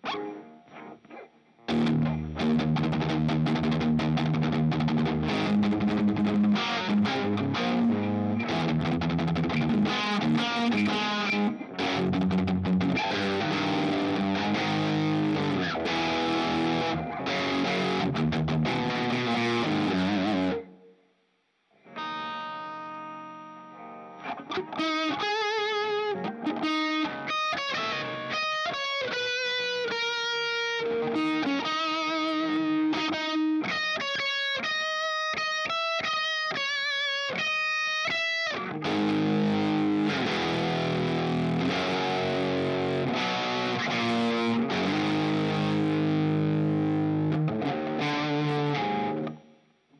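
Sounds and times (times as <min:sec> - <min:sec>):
distorted electric guitar rock: 0:00.0 - 0:20.9, 0:21.8 - 0:49.6.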